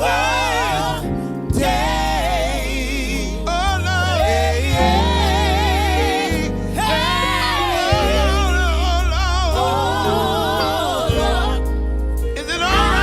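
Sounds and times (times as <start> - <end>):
long held bass notes: 0.0 - 13.0
person singing with vibrato: 0.0 - 13.0
sustained keyboard chords: 0.0 - 13.0.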